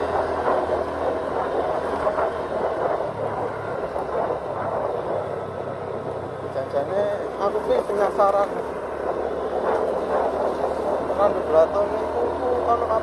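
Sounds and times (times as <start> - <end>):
scooter engine running: 0.0 - 13.0
wind rushing over microphone: 0.0 - 13.0.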